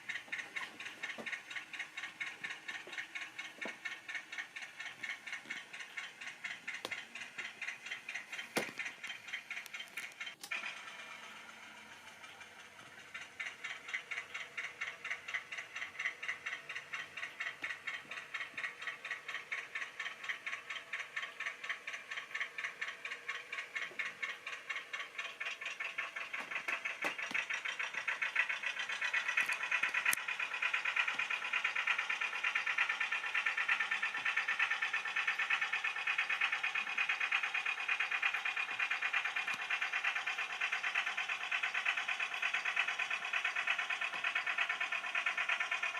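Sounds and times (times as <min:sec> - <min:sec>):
model train clicking on track: 0:00.0 - 0:45.9.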